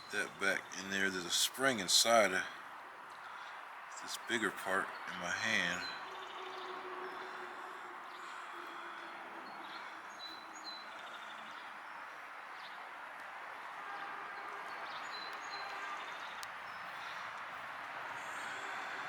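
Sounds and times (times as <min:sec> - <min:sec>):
birds chirping: 0:00.0 - 0:19.0
outdoor background hiss: 0:00.0 - 0:19.0.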